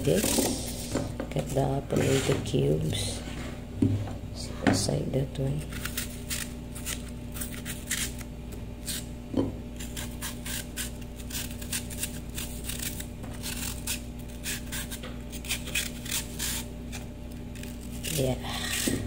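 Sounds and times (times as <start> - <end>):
knife cutting apple: 0.0 - 3.0, 5.5 - 19.0.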